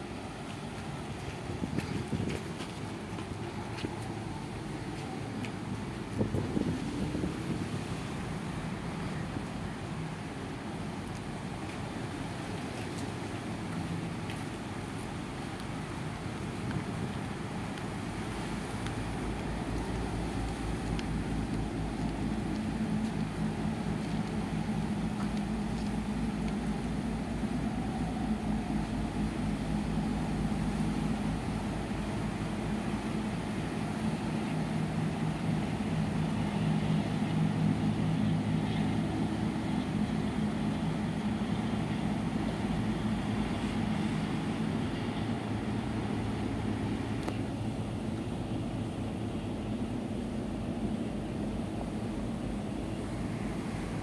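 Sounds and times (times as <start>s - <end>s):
constant rushing noise: 0.0s - 54.0s
ship engine droning: 0.0s - 54.0s.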